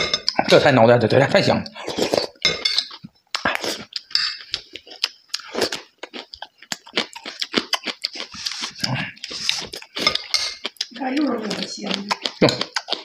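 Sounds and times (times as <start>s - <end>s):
man chewing food: 1.6s - 13.0s.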